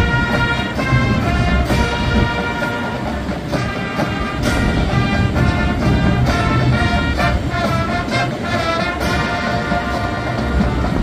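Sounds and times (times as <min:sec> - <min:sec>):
brass holding chords: 0:00.0 - 0:11.0.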